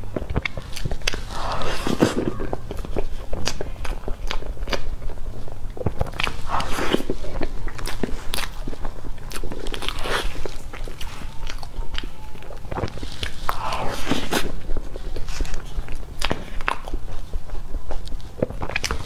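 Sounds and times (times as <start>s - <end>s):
person chewing cake: 0.0s - 19.0s.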